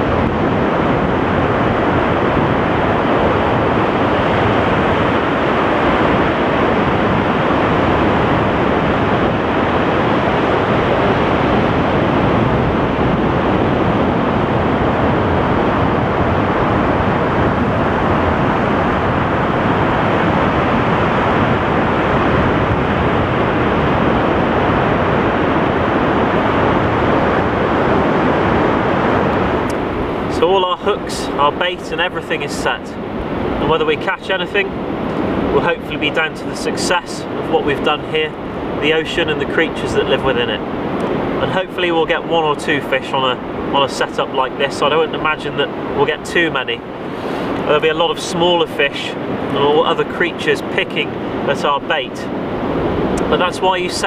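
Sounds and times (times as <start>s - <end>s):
surf: 0.0s - 54.0s
wind: 0.0s - 54.0s.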